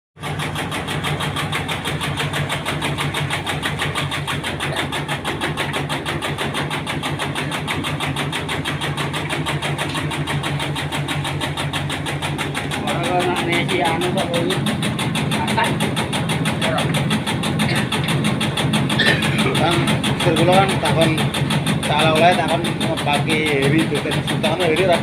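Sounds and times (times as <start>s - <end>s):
cutting machine humming: 0.2s - 25.0s.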